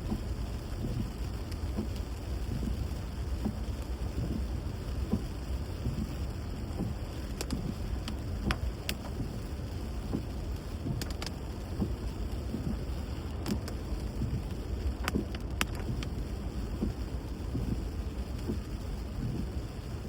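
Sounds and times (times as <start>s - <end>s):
raindrops ticking: 0.0s - 20.0s
vehicle rumbling through rain: 0.0s - 20.0s.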